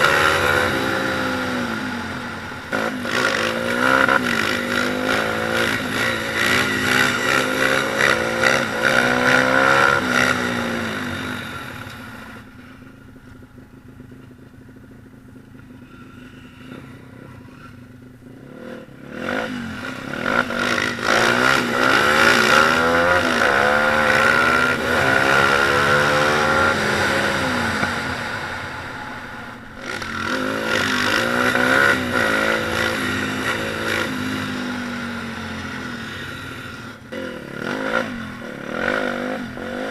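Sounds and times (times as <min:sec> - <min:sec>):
pit bike engine revving: 0:00.0 - 0:12.5, 0:15.7 - 0:39.9.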